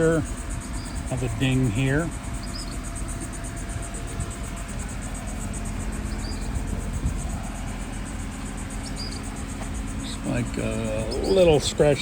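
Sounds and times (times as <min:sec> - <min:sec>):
faint hum: 0:00.0 - 0:12.0
insects buzzing: 0:00.0 - 0:12.0
low vehicle rumble: 0:00.0 - 0:12.0.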